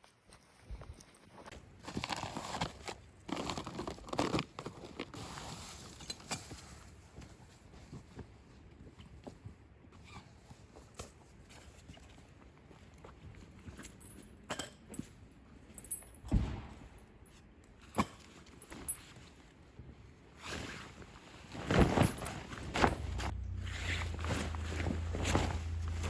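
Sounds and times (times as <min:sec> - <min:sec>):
rustling of camping gear: 0:00.0 - 0:16.0, 0:17.2 - 0:26.0.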